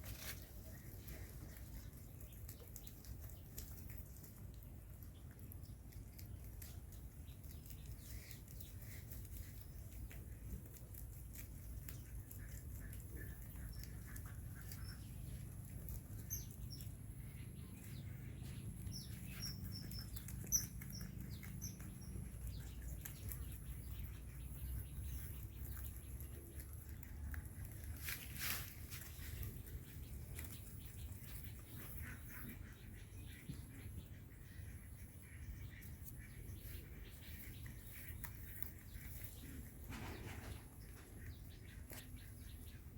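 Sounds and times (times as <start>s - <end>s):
rabbits chewing grass: 0.0s - 42.9s.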